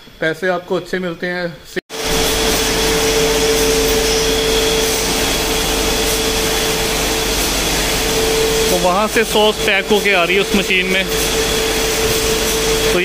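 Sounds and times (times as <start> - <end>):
packing line machinery whirring: 1.9 - 13.0.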